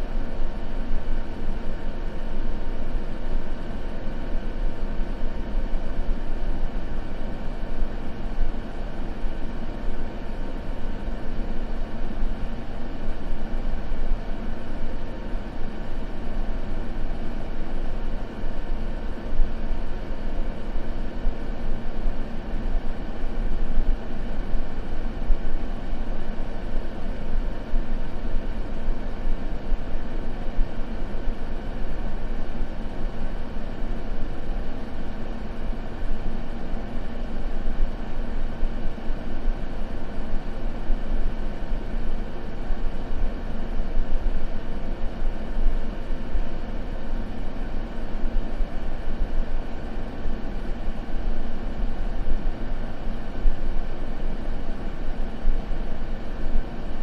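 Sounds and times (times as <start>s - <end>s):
low white noise hiss: 0.0s - 57.0s.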